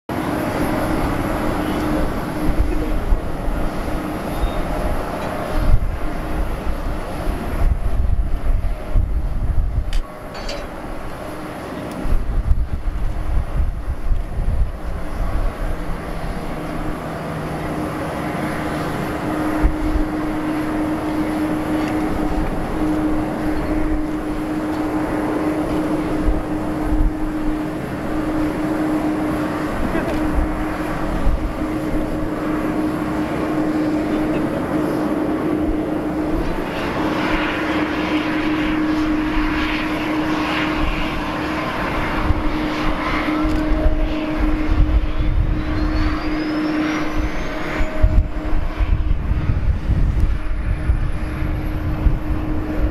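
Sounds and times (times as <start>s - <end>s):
aircraft rumble: 0.1s - 52.9s
steady humming tone: 0.1s - 52.9s.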